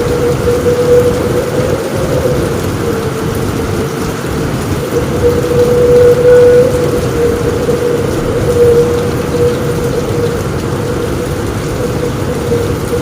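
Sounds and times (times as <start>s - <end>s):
heavy rain on a roof: 0.0s - 13.0s
thunder rumbling: 0.0s - 13.0s.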